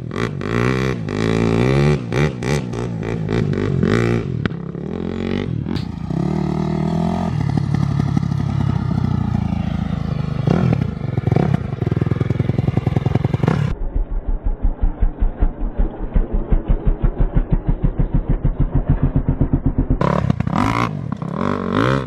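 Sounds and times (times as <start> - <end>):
dirt bike engine revving: 0.0 - 13.8, 14.8 - 22.0.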